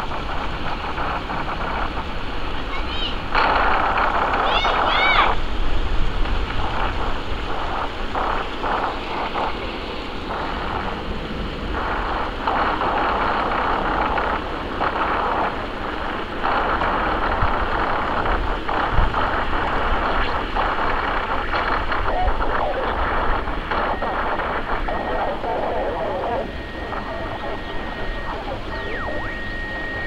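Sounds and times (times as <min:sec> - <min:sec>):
jet engines rushing overhead: 0:00.0 - 0:30.0
low rumble: 0:03.2 - 0:30.0.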